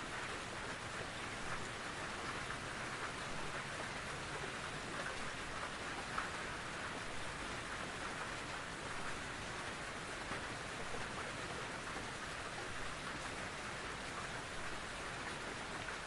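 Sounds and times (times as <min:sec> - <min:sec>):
rain pattering in forest: 0:00.0 - 0:16.0.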